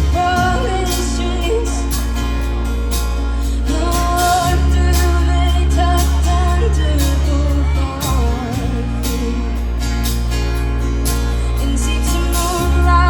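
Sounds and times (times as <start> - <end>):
person singing: 0.0 - 2.5, 3.4 - 10.1, 11.2 - 13.0
live rock band playing: 0.0 - 13.0.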